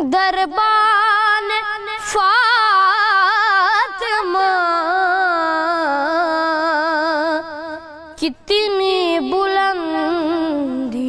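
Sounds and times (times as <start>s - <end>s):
boy singing unaccompanied: 0.0s - 11.0s.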